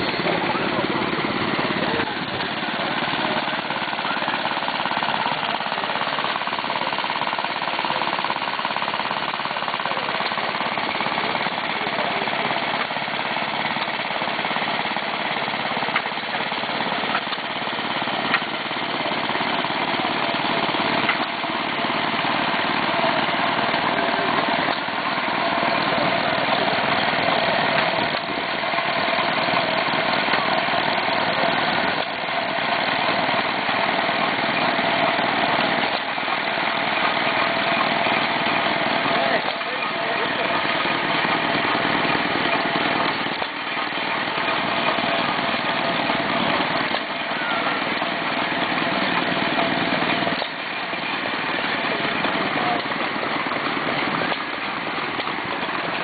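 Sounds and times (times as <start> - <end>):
steam engine clattering: 0.0 - 56.0.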